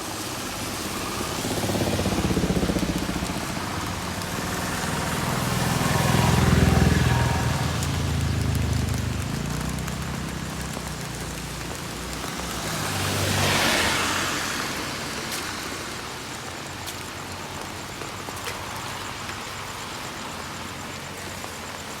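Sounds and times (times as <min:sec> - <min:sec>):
steady rain hiss: 0:00.0 - 0:22.0
tyres hissing on wet road: 0:00.0 - 0:22.0
vehicle engine hum: 0:00.2 - 0:22.0.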